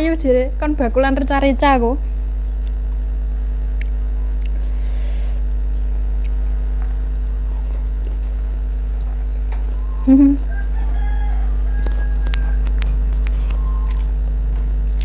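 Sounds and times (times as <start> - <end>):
low electrical mains hum: 0.0 - 15.0.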